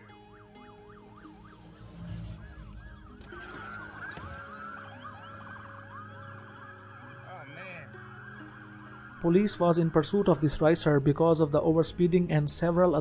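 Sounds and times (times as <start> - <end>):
siren yelping: 0.0 - 11.0
sirens wailing: 0.0 - 11.8.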